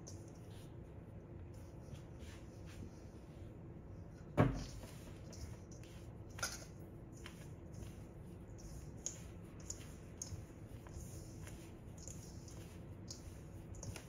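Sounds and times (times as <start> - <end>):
hand rubbing flour mixture in bowl: 0.0 - 14.0.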